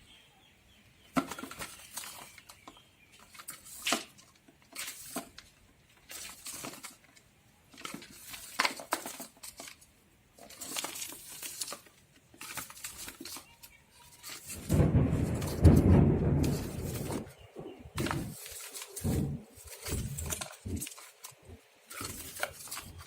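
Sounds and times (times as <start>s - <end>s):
paper rustling and crinkling: 1.1s - 23.0s.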